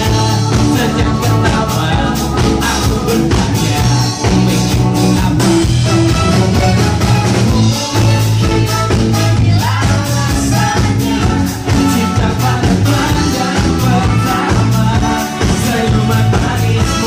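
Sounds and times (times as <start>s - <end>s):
bass guitar: 0.0s - 17.0s
drum kit beat: 0.0s - 17.0s
electric guitar: 0.0s - 17.0s
man singing: 0.0s - 17.0s.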